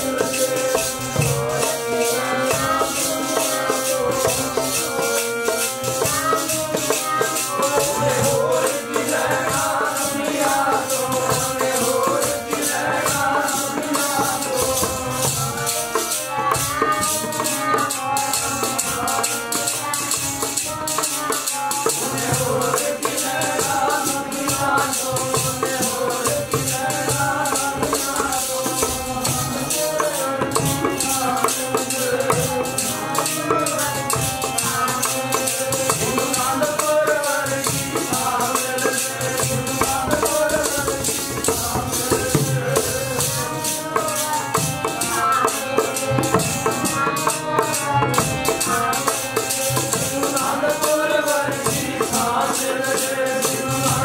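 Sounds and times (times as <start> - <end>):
harmonium: 0.0 - 54.0
jingling percussion: 0.0 - 54.0
man singing a hymn: 0.0 - 54.0.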